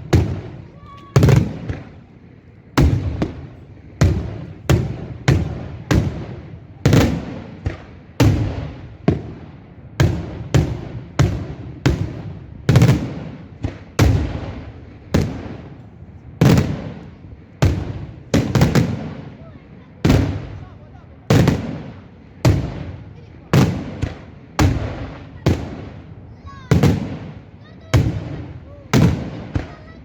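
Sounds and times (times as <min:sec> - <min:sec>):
fireworks bursting with loud bangs: 0:00.0 - 0:30.0.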